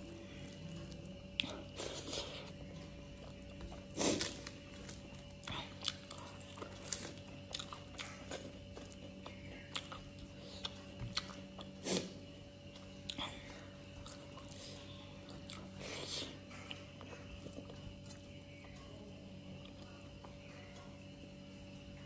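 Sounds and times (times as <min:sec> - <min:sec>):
chewing and wet mouth sounds: 0:00.0 - 0:18.8
faint steady hum: 0:00.0 - 0:22.0.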